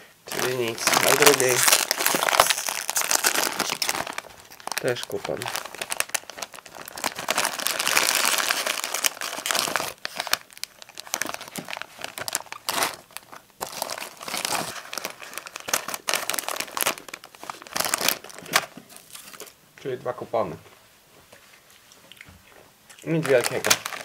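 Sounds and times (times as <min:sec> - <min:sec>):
foil crisp packets crinkling: 0:00.3 - 0:19.6, 0:23.0 - 0:24.0.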